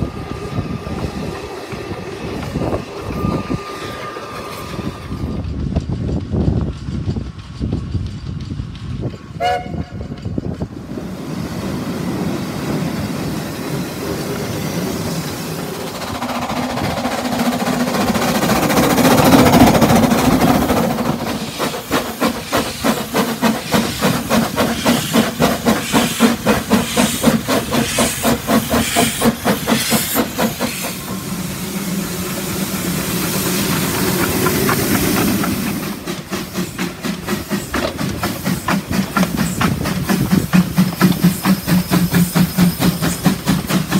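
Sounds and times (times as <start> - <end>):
steam hissing: 0.0 - 43.9
steam locomotive chuffing: 0.0 - 43.9.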